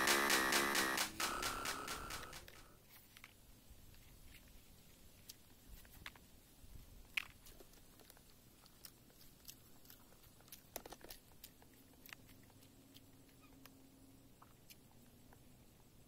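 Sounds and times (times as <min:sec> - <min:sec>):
faint chewing and crunching: 0:02.4 - 0:16.0.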